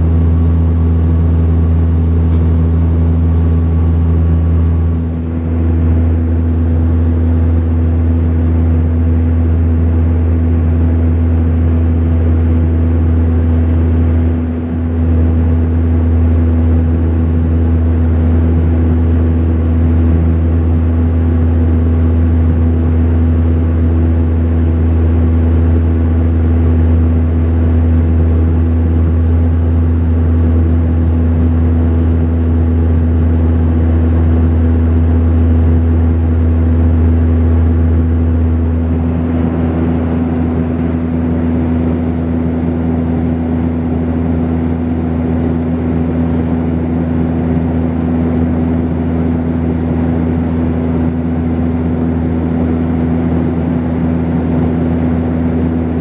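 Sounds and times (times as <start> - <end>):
propeller plane cabin drone: 0.0 - 56.0.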